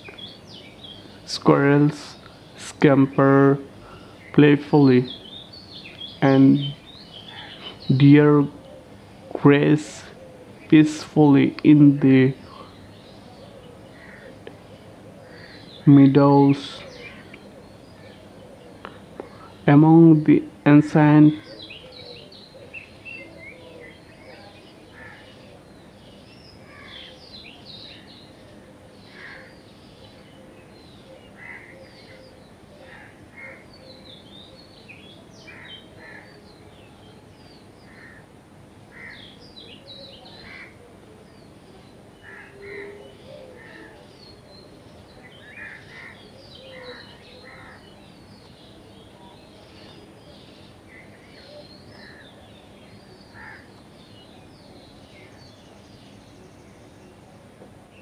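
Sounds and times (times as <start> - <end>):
birds chirping and calling: 0.0 - 58.0
steady background hiss: 0.0 - 58.0.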